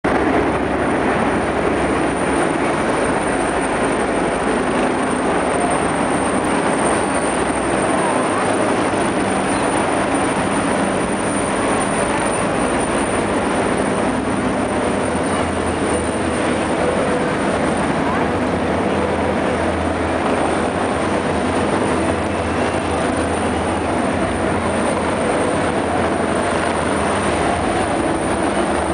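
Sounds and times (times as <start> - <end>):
helicopter flying overhead: 0.0 - 28.9
stadium crowd murmur: 1.9 - 28.9.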